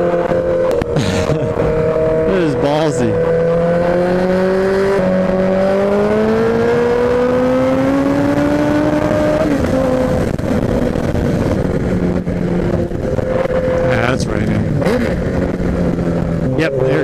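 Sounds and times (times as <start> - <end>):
wind rush: 0.0 - 16.8
motorcycle engine at full throttle: 0.0 - 17.0.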